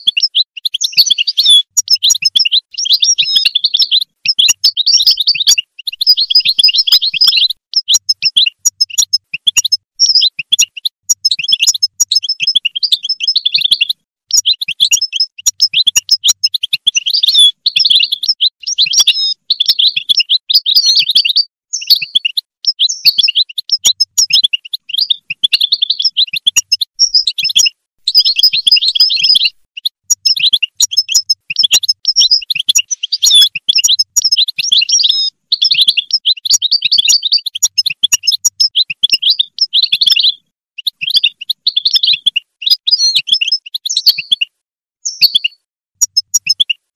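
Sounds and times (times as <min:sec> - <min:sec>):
finch twittering song: 0:00.0 - 0:46.9.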